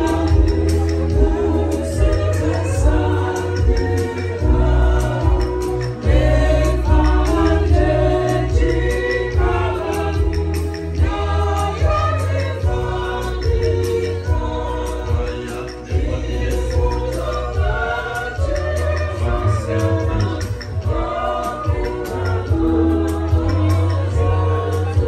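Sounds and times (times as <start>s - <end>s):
gospel choir singing: 0.0s - 25.0s
light steady beat: 0.0s - 25.0s.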